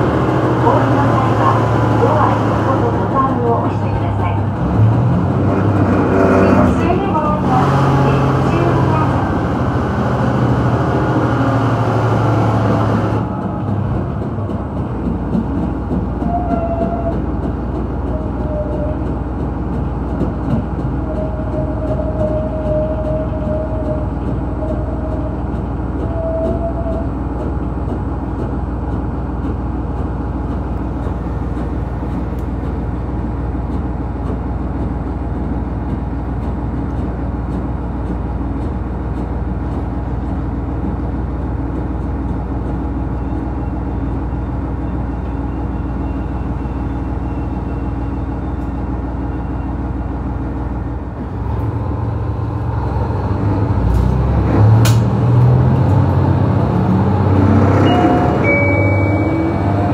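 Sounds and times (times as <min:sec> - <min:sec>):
diesel engine drone: 0:00.0 - 0:59.9
rail running noise: 0:00.0 - 0:59.9.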